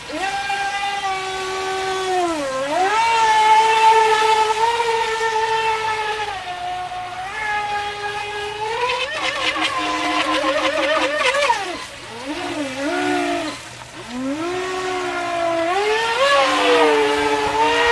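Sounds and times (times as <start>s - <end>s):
electric boat motor whining: 0.0s - 17.9s.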